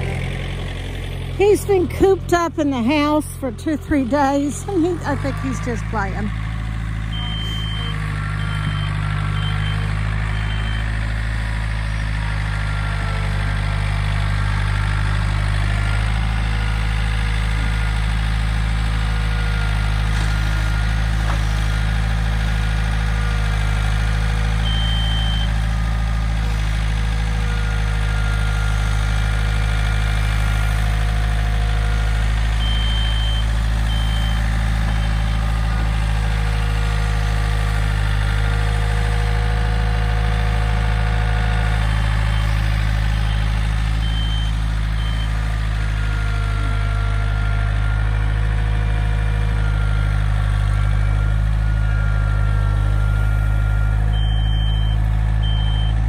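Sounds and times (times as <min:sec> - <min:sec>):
backhoe engine humming: 0:00.0 - 0:56.0.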